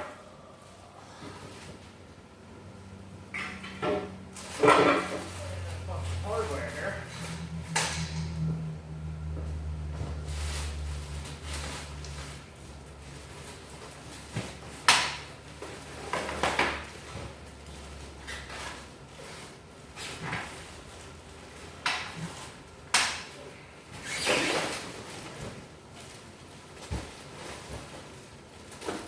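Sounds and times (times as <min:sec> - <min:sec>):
parts clattering and shuffling: 0:03.0 - 0:08.6, 0:09.3 - 0:29.0.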